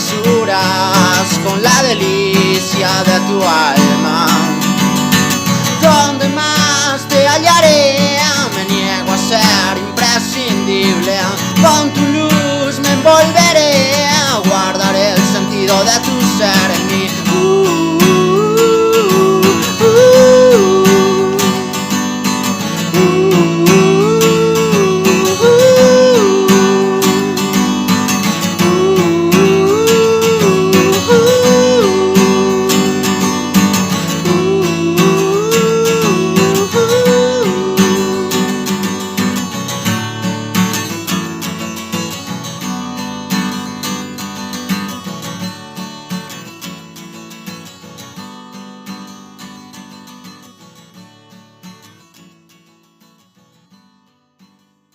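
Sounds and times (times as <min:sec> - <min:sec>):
strummed acoustic guitar: 0:00.0 - 0:54.9.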